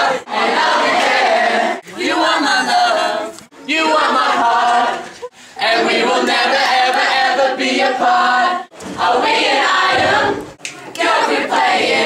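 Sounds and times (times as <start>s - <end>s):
teenagers singing in chorus: 0.0s - 12.0s.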